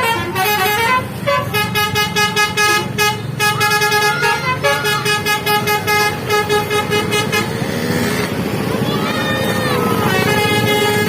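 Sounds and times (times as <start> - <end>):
bus horn tooting a melody: 0.0 - 7.6, 9.8 - 11.0.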